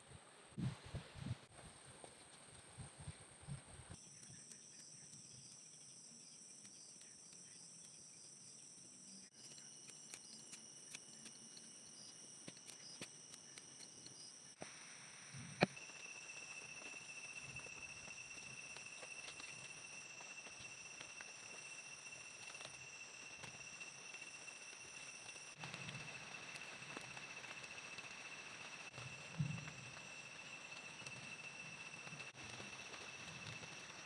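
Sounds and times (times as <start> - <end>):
forest insects whining and trilling: 4.0 - 34.0.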